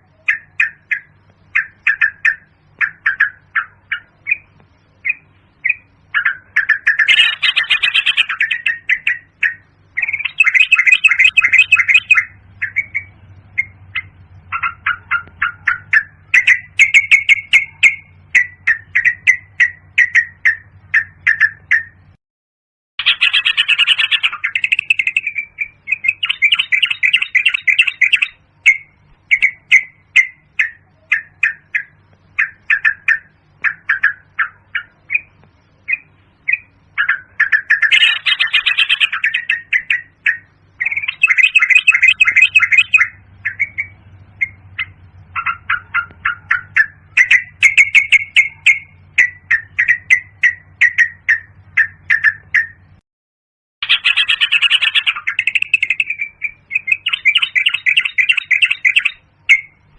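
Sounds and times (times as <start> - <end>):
bird chirping and chattering: 0.0 - 22.1, 23.0 - 53.0, 53.8 - 59.9.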